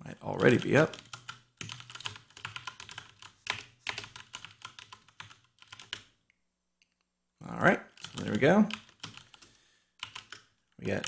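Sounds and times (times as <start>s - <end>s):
keyboard typing: 0.4s - 6.2s, 7.9s - 11.0s.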